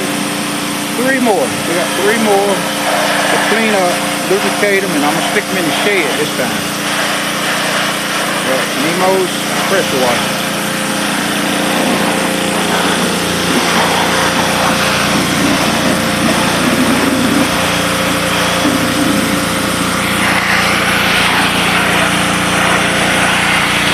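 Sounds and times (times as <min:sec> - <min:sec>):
pressure washer running: 0:00.0 - 0:23.9
water spray hissing: 0:00.0 - 0:23.9.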